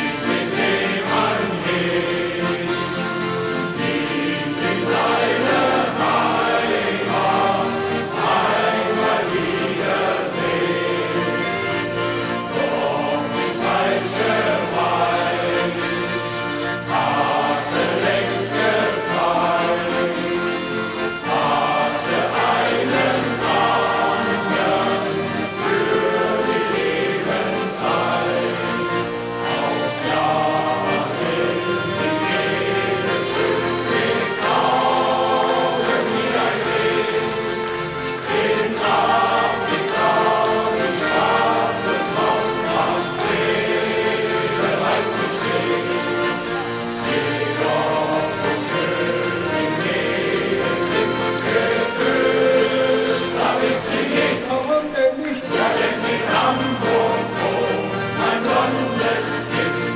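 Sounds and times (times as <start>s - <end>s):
men's choir singing: 0.0s - 59.9s.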